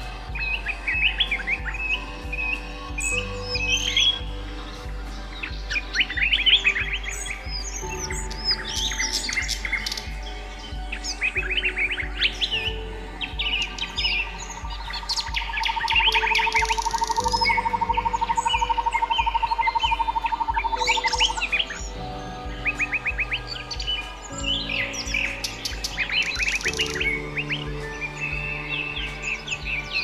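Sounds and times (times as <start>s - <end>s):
small birds chirping: 0.0s - 30.0s
soft music with low beat: 0.0s - 30.0s.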